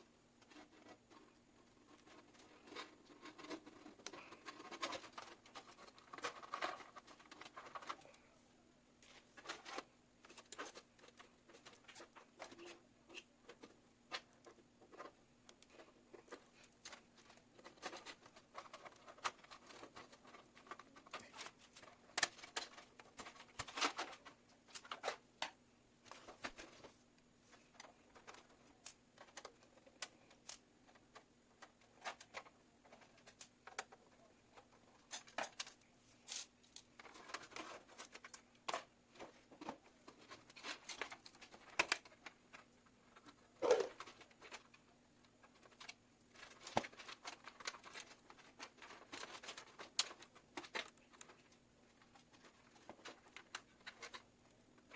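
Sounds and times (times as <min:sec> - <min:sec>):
faint steady hum: 0:00.0 - 0:54.9
hands handling computer parts: 0:00.4 - 0:08.3, 0:09.0 - 0:54.9.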